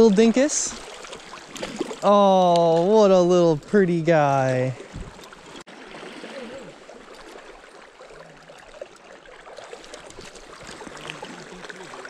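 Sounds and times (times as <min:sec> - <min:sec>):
river water babbling: 0:00.0 - 0:12.0.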